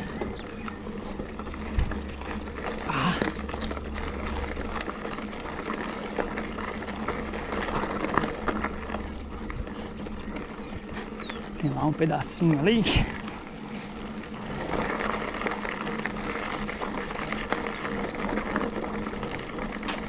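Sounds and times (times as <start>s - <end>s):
bike rattling and clicking: 0.0s - 20.0s
tyres crunching over gravel: 0.0s - 20.0s.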